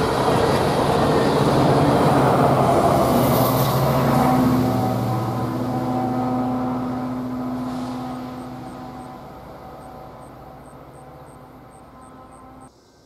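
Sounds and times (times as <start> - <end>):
diesel locomotive engine drone: 0.0 - 12.7.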